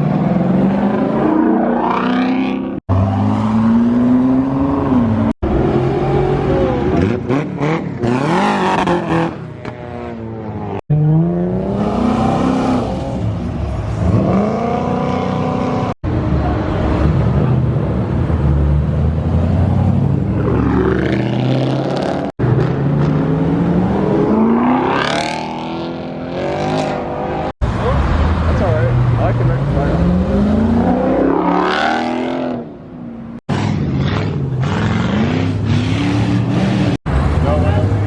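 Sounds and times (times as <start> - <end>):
cars accelerating hard: 0.0 - 32.8, 33.5 - 38.0.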